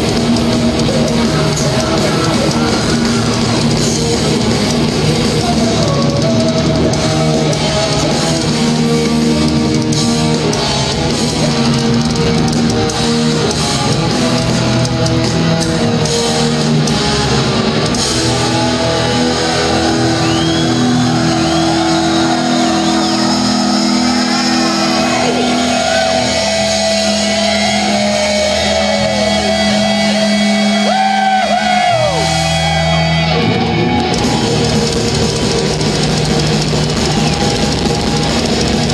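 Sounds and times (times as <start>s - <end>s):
distorted electric guitars: 0.0s - 38.9s
metal band playing live: 0.0s - 38.9s.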